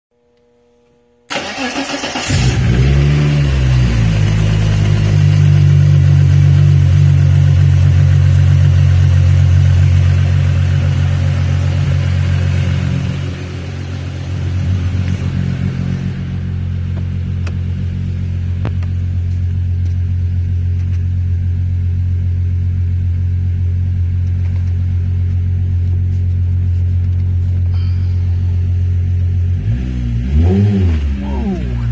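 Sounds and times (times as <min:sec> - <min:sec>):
car engine running: 0:02.2 - 0:31.9.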